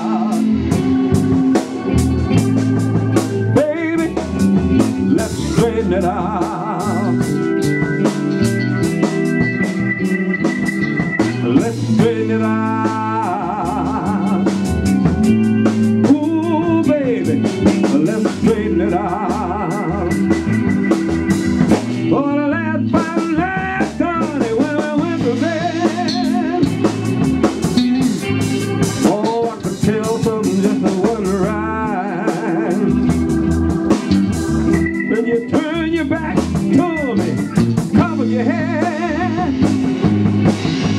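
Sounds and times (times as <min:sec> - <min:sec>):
man singing: 0:00.0 - 0:07.6, 0:11.3 - 0:20.7, 0:22.0 - 0:33.3, 0:35.0 - 0:40.0
drums: 0:00.0 - 0:40.9
guitar: 0:00.0 - 0:40.9.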